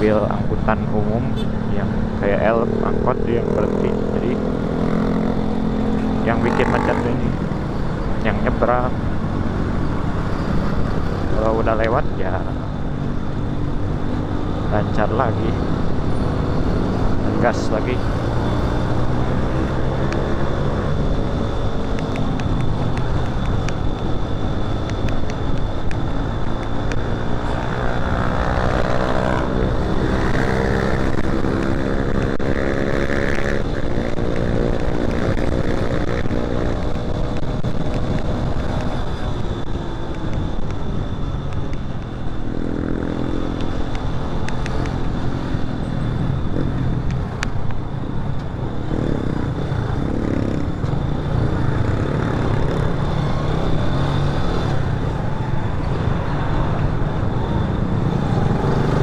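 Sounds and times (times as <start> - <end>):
motorcycle engine accelerating: 0.0 - 59.0
road and wind noise: 0.0 - 59.0.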